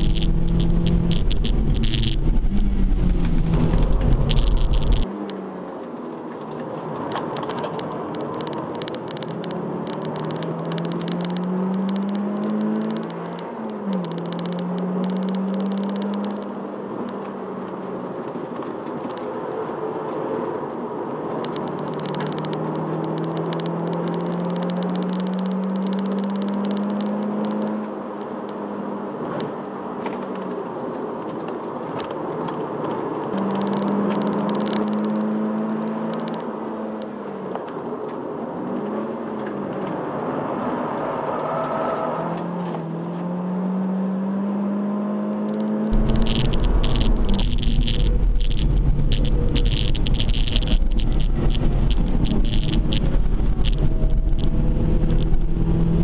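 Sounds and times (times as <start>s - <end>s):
car engine revving: 0.0s - 5.1s, 7.9s - 18.1s, 21.3s - 29.3s, 32.7s - 37.0s, 38.7s - 56.0s
road noise: 0.0s - 56.0s.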